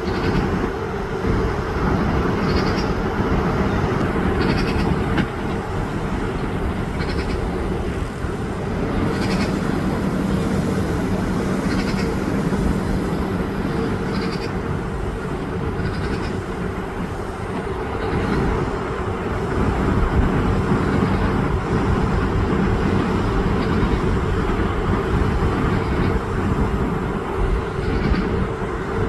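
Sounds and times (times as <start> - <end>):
constant hum: 0.0 - 29.0
low outdoor rumble: 0.0 - 29.0.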